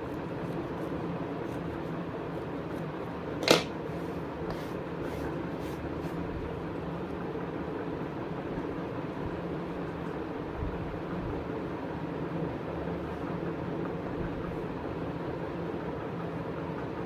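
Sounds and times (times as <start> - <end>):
room noise hum and hiss: 0.0 - 17.0.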